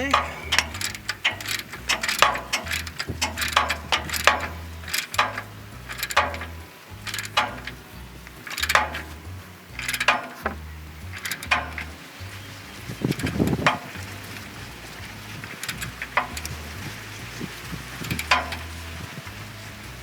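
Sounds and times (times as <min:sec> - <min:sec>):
ratchet wrench clicking: 0:00.1 - 0:14.7, 0:15.3 - 0:19.4.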